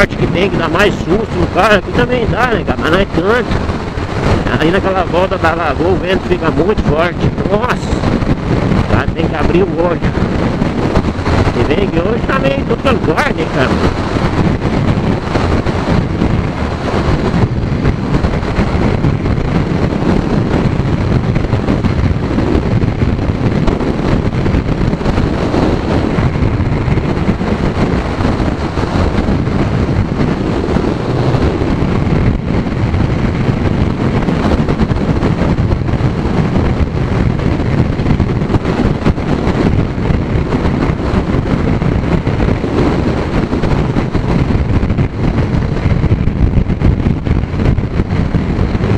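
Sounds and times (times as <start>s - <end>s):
wind rushing on microphone: 0.0s - 48.9s.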